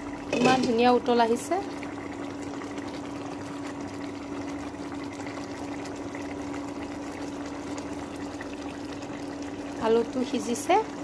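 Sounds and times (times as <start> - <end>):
curry bubbling in a pan: 0.0 - 11.0.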